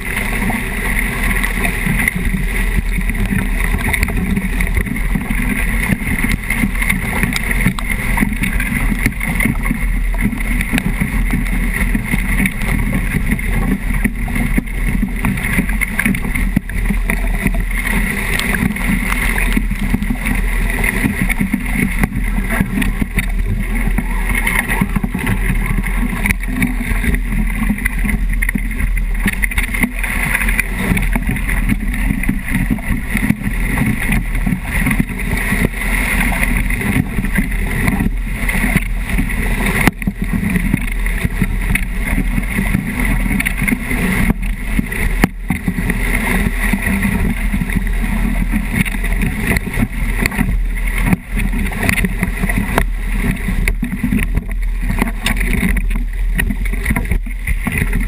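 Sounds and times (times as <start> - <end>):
water streaming past hull: 0.0 - 58.0.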